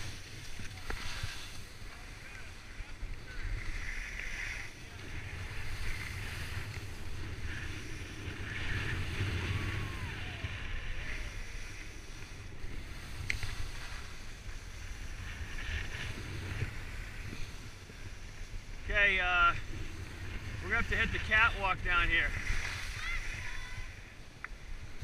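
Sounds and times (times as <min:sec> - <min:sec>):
skis hissing on snow: 0:00.0 - 0:25.0
wind rushing over microphone: 0:00.0 - 0:25.0.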